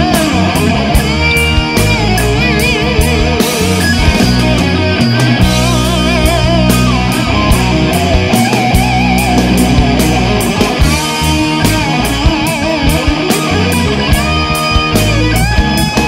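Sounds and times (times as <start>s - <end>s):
bass: 0.0s - 16.0s
drum beat: 0.0s - 16.0s
electric guitar lead line: 0.0s - 16.0s.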